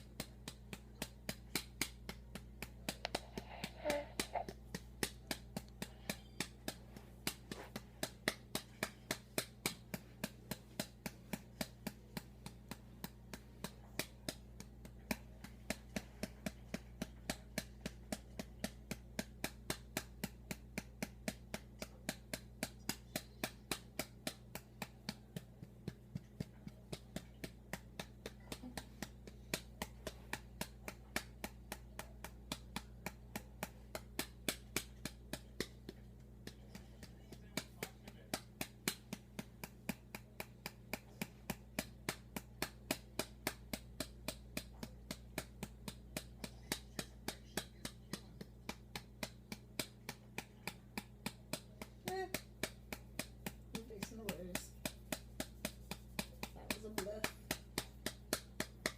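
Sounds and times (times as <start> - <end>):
low steady hum: 0.0 - 58.9
hand patting a baby's back: 0.1 - 58.9.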